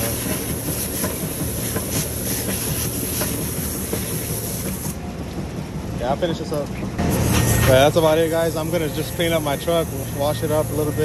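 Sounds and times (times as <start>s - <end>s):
high-pressure water spray: 0.0s - 5.0s, 7.0s - 11.0s.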